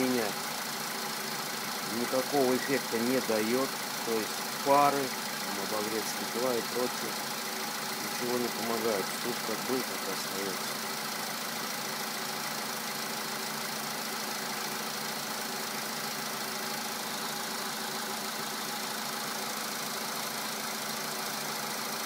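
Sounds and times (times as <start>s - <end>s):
car engine idling: 0.0s - 22.0s
engine knocking: 0.0s - 22.0s.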